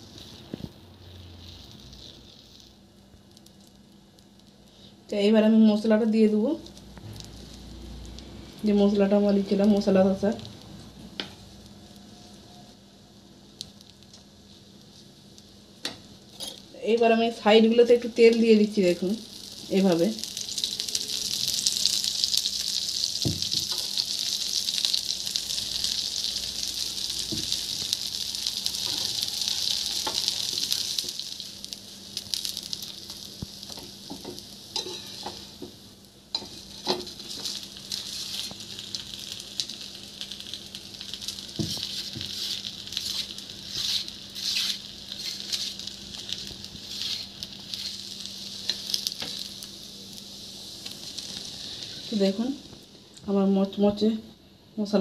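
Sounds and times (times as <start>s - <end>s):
crackles: 0.0s - 5.1s, 6.0s - 54.1s
oil sizzling on a griddle: 0.0s - 54.0s.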